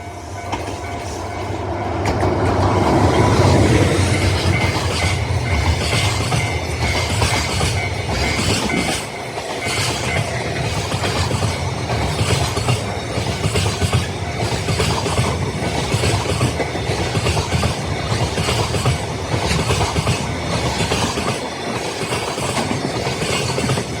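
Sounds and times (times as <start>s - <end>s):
low train rumble: 0.0s - 24.0s
train wheels clacking over rail joints: 0.4s - 24.0s.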